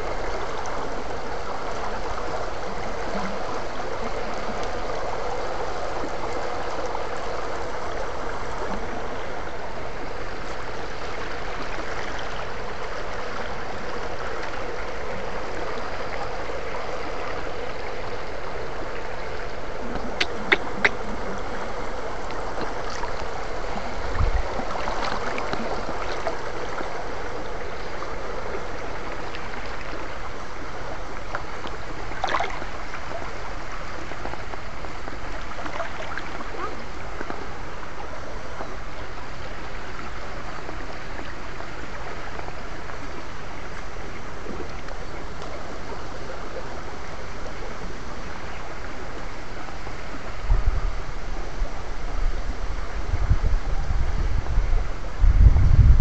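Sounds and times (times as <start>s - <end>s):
faint steady hum: 0.0s - 56.0s
stream water running: 0.0s - 56.0s.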